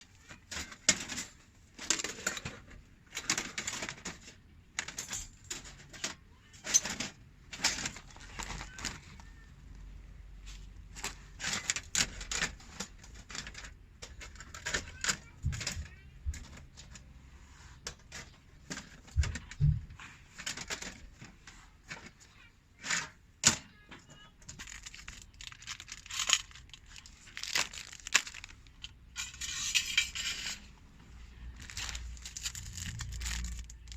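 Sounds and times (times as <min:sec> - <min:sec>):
scraping and rustling handling sounds: 0:00.0 - 0:33.9.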